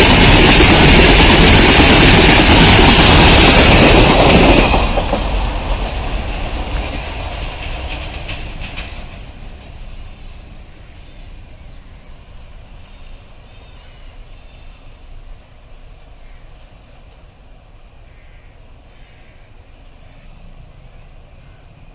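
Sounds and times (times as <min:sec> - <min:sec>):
freight train rumbling: 0:00.0 - 0:21.9.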